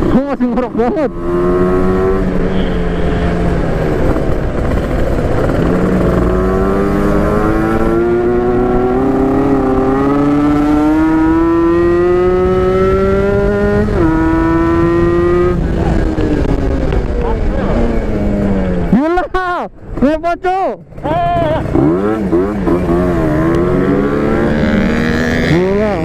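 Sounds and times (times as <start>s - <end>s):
motorcycle engine accelerating: 0.0s - 19.0s, 20.8s - 26.0s
low wind rumble: 0.0s - 26.0s.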